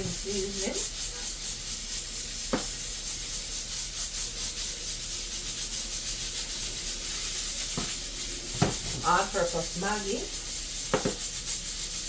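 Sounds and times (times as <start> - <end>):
seasoning rubbed into chicken: 0.0 - 12.0
steady hiss: 0.0 - 12.0.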